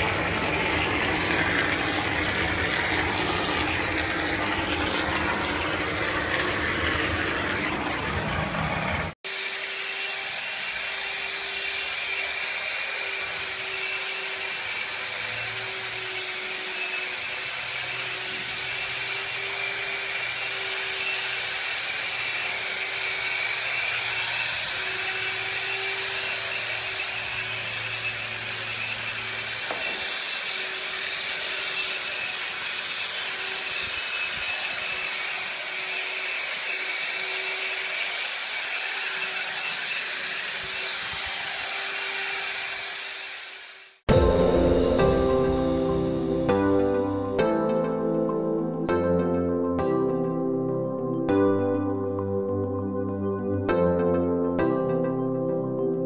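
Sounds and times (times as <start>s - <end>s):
electric drywall sander whining: 0.0s - 47.7s.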